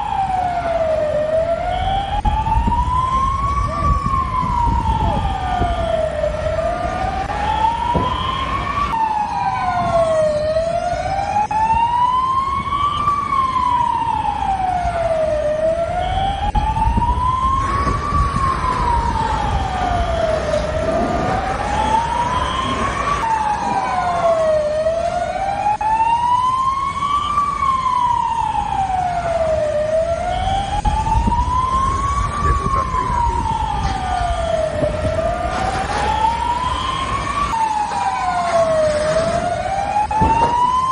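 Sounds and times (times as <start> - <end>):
emergency siren wailing: 0.0 - 40.9
faint second siren: 0.0 - 40.9.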